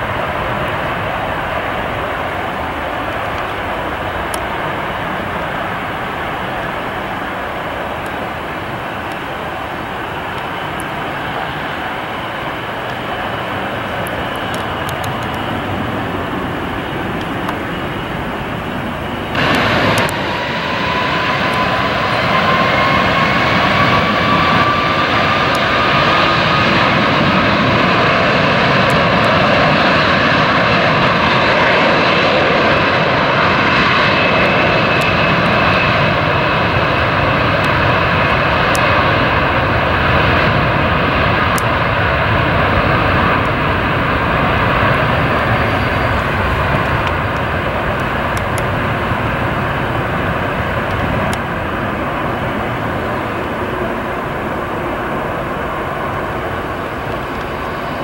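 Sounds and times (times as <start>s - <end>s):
jet engine whine: 0.0s - 58.0s
jet noise rushing: 3.1s - 58.0s.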